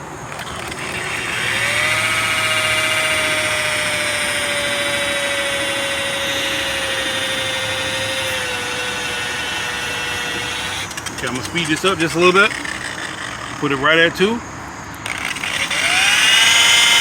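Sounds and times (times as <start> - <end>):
rotary buffer motor whine: 0.0 - 17.0.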